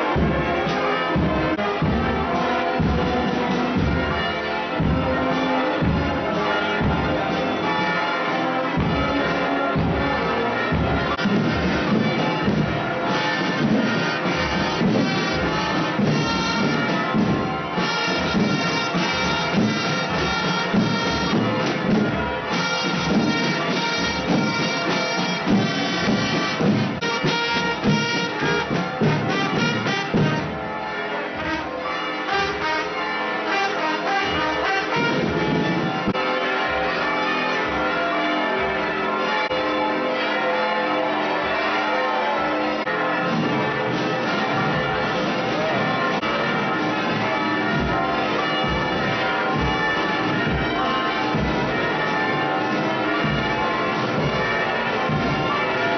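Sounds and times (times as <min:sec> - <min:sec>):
marching drums: 0:00.0 - 0:40.0, 0:42.8 - 0:55.9
church bells ringing: 0:00.0 - 0:55.9.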